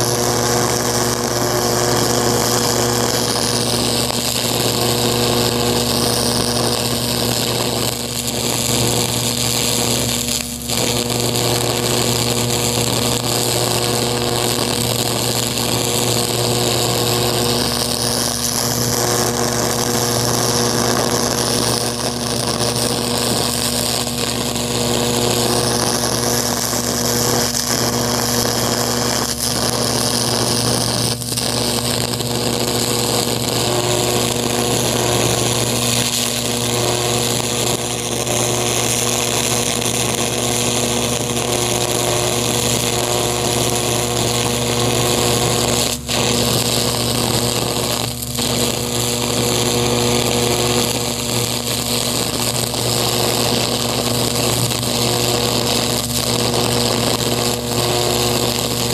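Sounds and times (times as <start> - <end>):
electric arc buzzing and crackling: 0.0 - 58.9.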